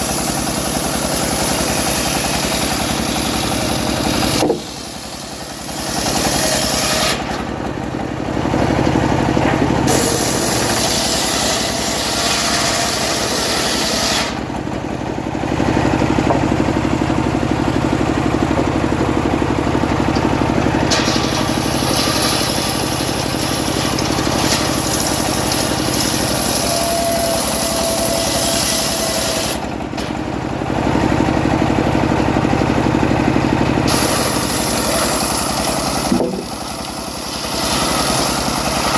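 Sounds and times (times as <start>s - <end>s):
circular saw cutting wood: 0.0s - 14.8s, 15.8s - 30.1s, 33.5s - 38.9s.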